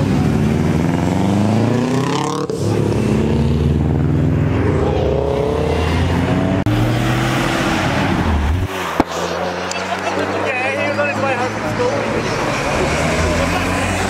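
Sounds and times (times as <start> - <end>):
another car engine revving: 0.0 - 14.0
car engine revving: 0.0 - 14.0.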